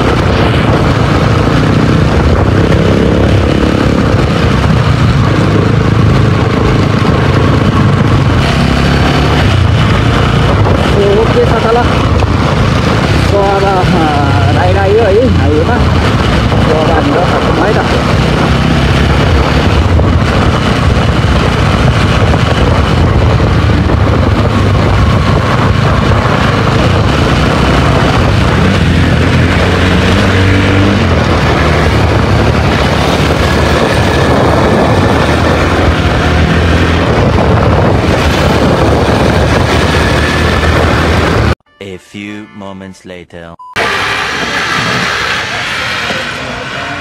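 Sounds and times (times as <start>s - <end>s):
motorcycle engine running: 0.0s - 41.6s
wind rush on microphone: 0.0s - 41.6s, 43.8s - 47.0s.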